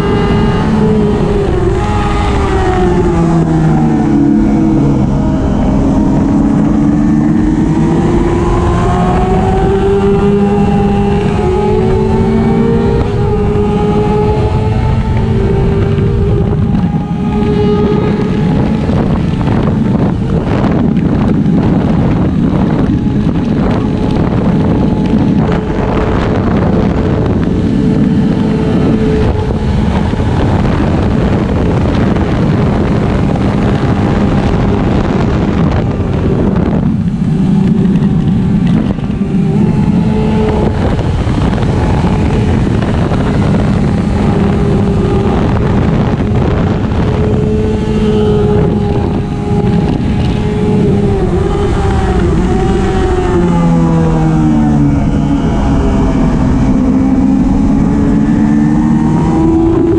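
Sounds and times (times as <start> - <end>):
motorcycle engine revving high: 0.0 - 59.9
wind buffeting microphone: 0.0 - 59.9.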